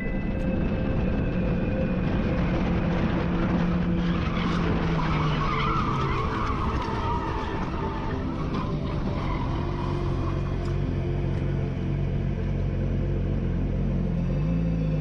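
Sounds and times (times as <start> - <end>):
tyres skidding and squealing: 0.0 - 12.2
car engine running: 0.0 - 15.0.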